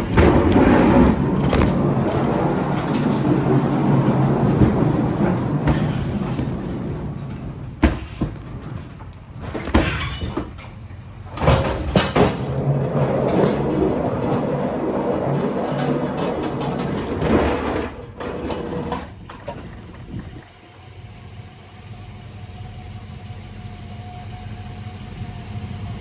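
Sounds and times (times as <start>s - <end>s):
heavy vehicle engine rattling: 0.0s - 21.2s.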